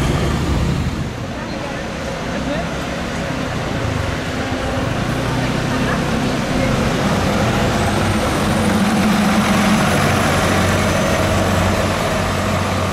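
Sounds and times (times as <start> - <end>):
bus engine humming: 0.0 - 12.9.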